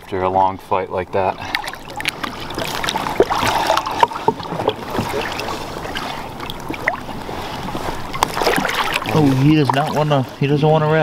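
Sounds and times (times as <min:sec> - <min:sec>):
water sloshing against boat: 0:00.0 - 0:11.0.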